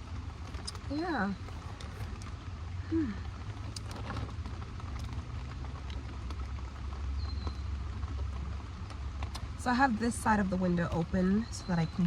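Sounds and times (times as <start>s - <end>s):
rain pattering on camper: 0.0s - 12.0s.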